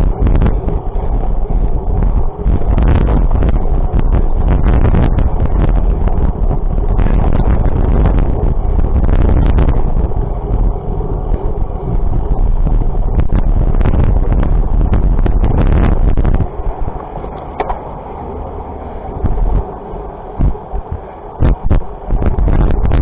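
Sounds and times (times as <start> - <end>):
low rumble: 0.0 - 23.0
scattered crackles: 0.0 - 23.0
wind buffeting microphone: 0.0 - 23.0.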